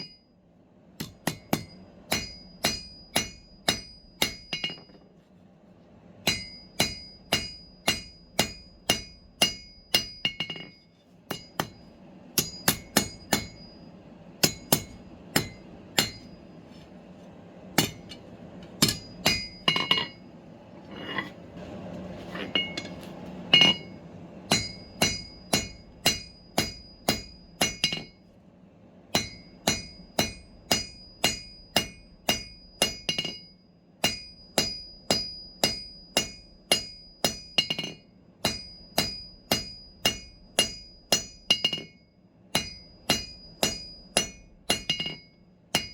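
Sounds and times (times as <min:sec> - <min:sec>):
hammer striking steel on anvil: 0:00.0 - 0:00.3, 0:01.0 - 0:05.1, 0:06.2 - 0:16.6, 0:17.8 - 0:20.2, 0:22.4 - 0:28.2, 0:29.1 - 0:45.9.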